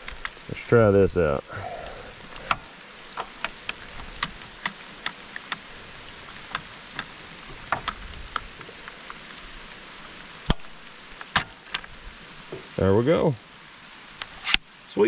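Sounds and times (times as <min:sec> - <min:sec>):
raindrops dripping on hard surfaces: 0:00.0 - 0:15.0
steady low rain hiss: 0:00.0 - 0:15.0.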